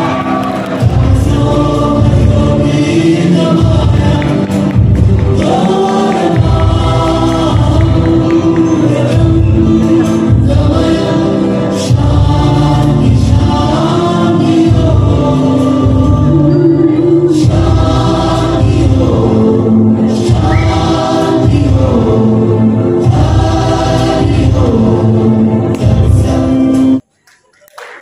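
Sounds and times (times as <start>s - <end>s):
group of voices singing in chorus: 0.0s - 27.0s.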